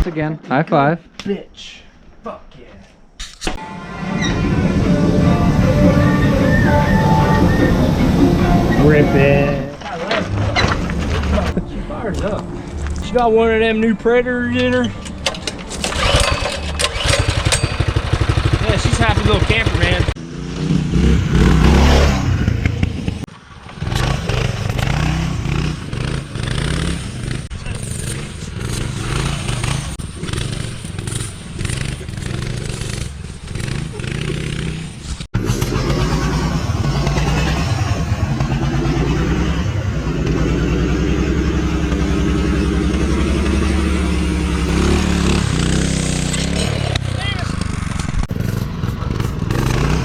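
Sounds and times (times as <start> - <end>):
mini bike engine revving: 4.2 - 11.6, 15.8 - 50.0.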